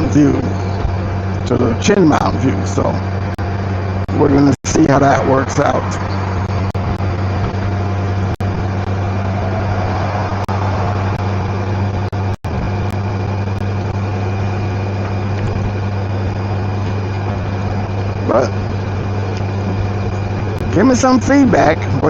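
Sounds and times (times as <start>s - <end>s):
motorcycle engine hum: 0.0s - 22.0s
wind and road noise: 0.0s - 22.0s.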